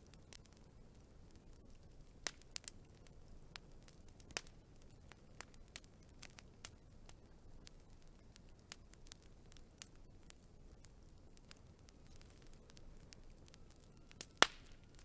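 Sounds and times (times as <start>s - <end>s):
faint low hiss: 0.0s - 15.0s
wood fire crackling: 0.0s - 15.0s.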